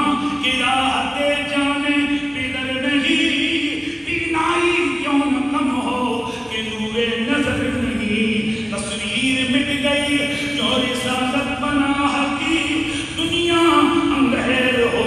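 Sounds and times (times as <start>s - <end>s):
man chanting verse melodically: 0.0s - 15.0s.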